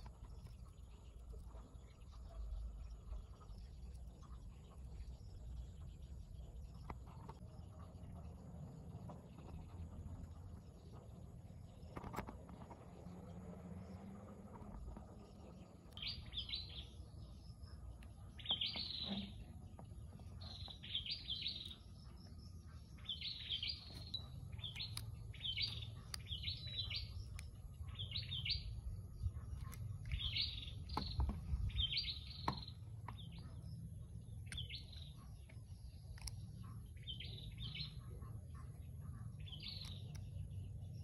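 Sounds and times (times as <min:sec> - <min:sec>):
low background rumble: 0:00.0 - 0:41.0
small bird chirping: 0:00.0 - 0:41.0.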